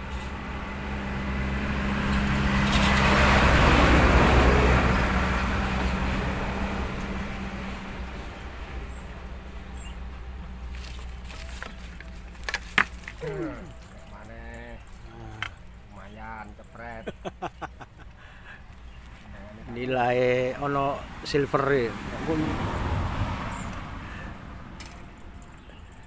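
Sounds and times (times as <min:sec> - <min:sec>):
vehicle passing on road: 0:00.0 - 0:26.0.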